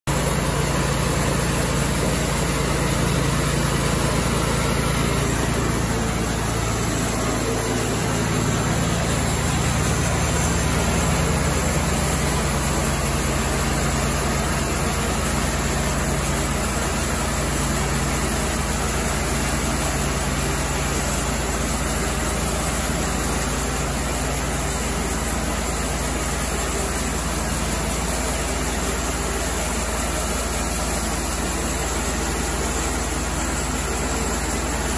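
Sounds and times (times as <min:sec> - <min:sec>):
sawmill engine running: 0:00.1 - 0:34.9.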